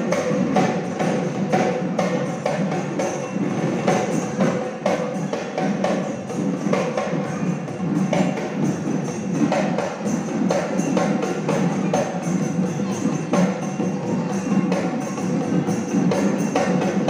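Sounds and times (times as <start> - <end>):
barrel drum playing rhythm: 0.0 - 17.0.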